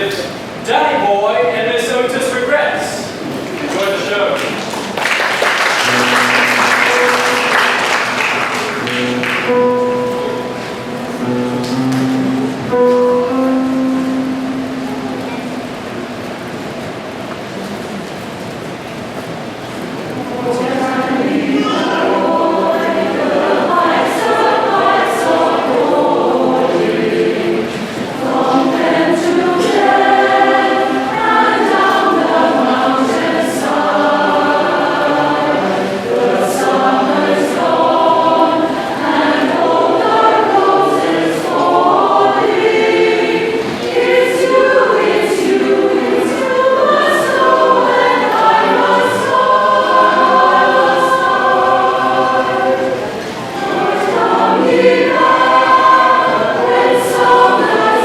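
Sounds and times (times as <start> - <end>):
choir singing: 5.5 - 16.7, 19.8 - 58.0.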